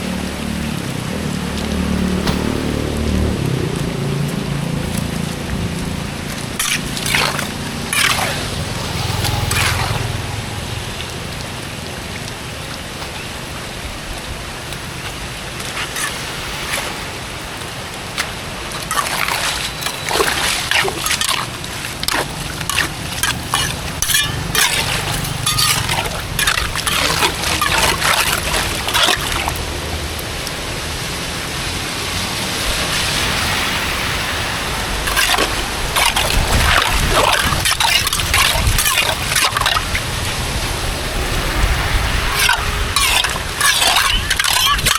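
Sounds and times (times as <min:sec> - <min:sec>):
water rushing: 0:00.0 - 0:44.9
water splashing and sloshing: 0:00.0 - 0:44.9.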